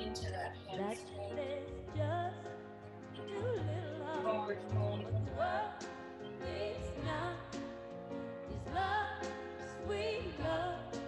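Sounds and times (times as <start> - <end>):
slow song with singing voice: 0.0 - 11.0.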